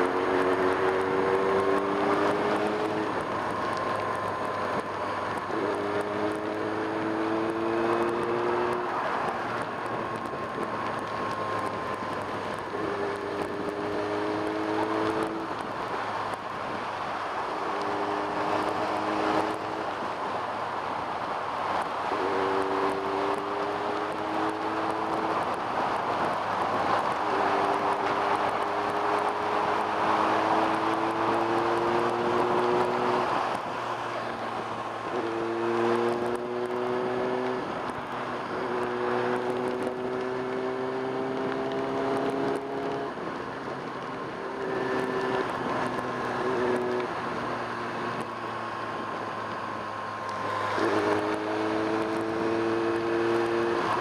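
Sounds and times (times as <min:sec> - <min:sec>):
motorcycle engine accelerating: 0:00.0 - 0:54.0
wind and road noise: 0:00.0 - 0:54.0.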